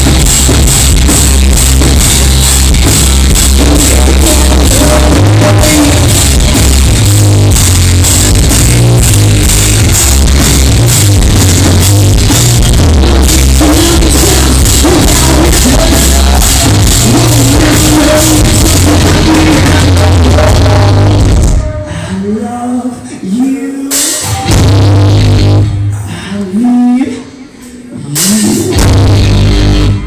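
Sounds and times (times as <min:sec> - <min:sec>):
pounding drum kit: 0:00.0 - 0:22.1, 0:23.4 - 0:26.9, 0:28.0 - 0:30.0
heavy bass: 0:00.0 - 0:22.7, 0:23.8 - 0:30.0
distorted guitars: 0:00.0 - 0:30.0.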